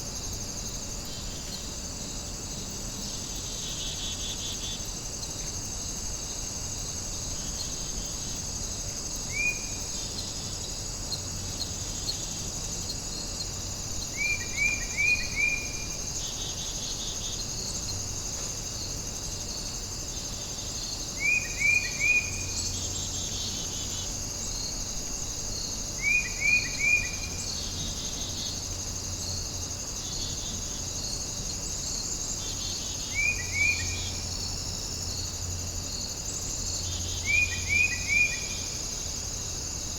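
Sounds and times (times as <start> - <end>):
crickets chorus: 0.0 - 39.9.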